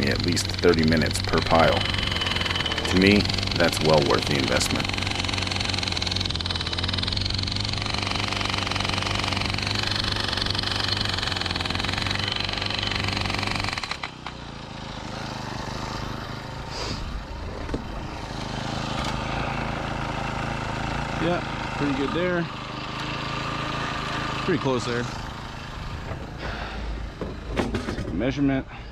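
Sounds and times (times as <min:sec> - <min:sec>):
engine running: 0:00.0 - 0:28.6.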